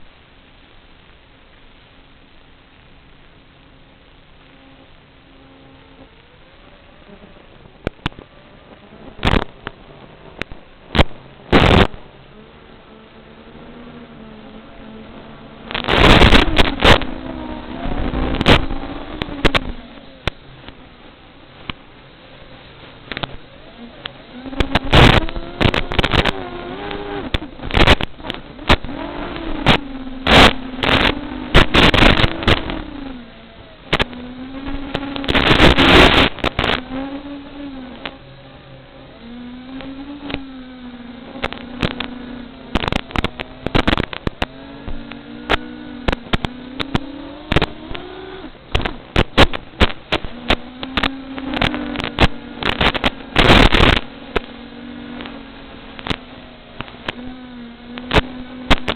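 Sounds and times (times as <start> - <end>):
loud rush of noise: 0.0 - 39.0, 39.7 - 58.9
sharp crackles: 0.0 - 58.9
quadcopter motors buzzing: 4.6 - 58.9.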